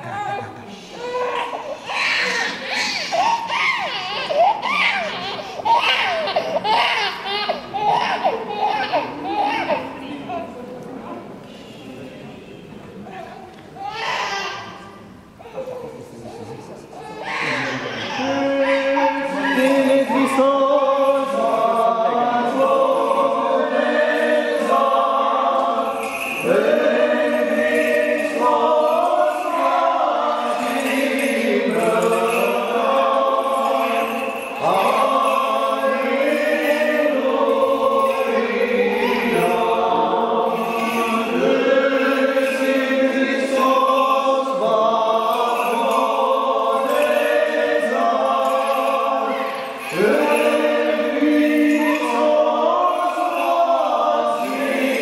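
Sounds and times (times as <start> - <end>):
voices singing liturgical chant: 1.0 - 10.6, 17.2 - 55.0.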